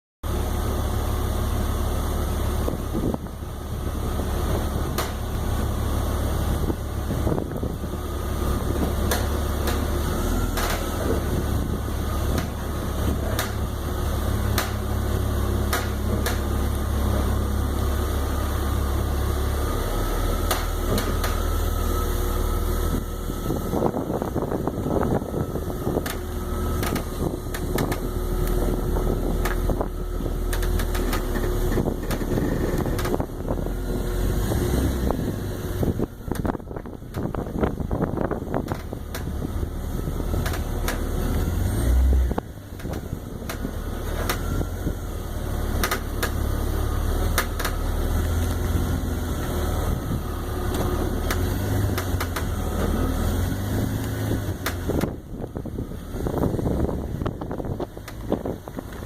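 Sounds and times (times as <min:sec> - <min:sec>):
car low drone: 0:00.2 - 0:59.0.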